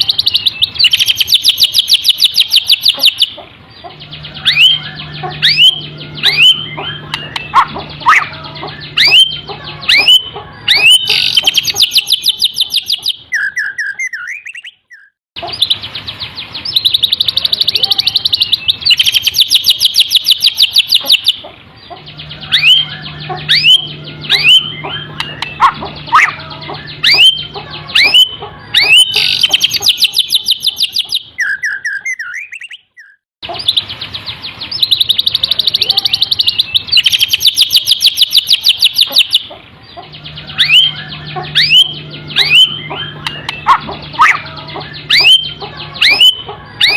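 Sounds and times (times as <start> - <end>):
songbird whistles and trills: 0.0 - 46.9.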